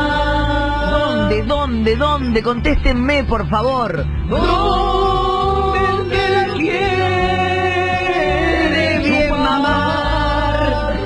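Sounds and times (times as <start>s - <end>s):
steady bass: 0.0s - 11.0s.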